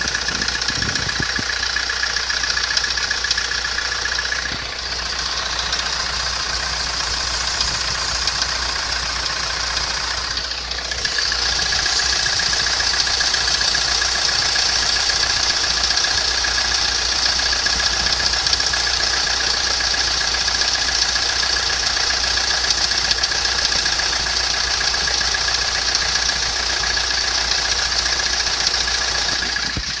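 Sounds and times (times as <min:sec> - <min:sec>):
diesel engine idling: 0:00.0 - 0:30.0
pulley bearing knocking: 0:00.0 - 0:30.0.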